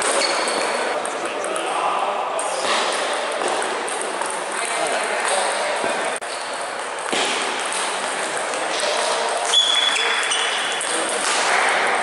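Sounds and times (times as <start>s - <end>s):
table tennis balls clicking: 0.0s - 1.9s, 2.8s - 12.0s
sports hall din: 0.0s - 12.0s
sharp table tennis hit: 2.4s - 12.0s.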